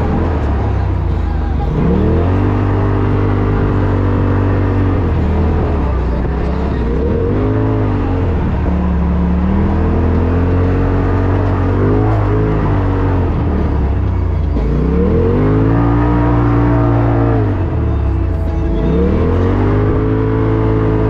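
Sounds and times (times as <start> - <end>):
engine revving under load: 0.0 - 21.0.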